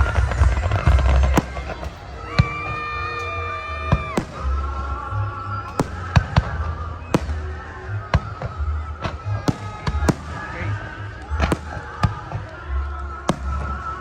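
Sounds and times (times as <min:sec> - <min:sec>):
fireworks bangs: 0:00.0 - 0:14.0
music playing: 0:00.0 - 0:14.0.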